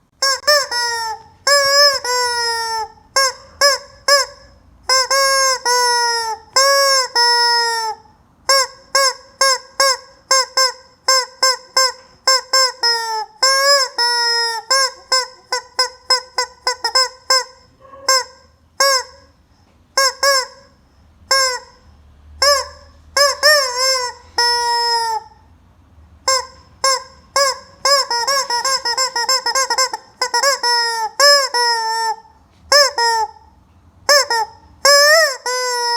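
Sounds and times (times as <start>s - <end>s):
rubber chicken toy squawking: 0.2s - 25.5s, 26.2s - 35.9s.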